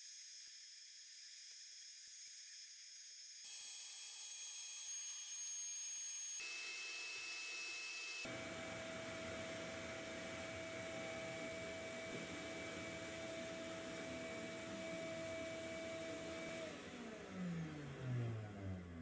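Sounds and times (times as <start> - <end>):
router motor whine: 0.0 - 19.0.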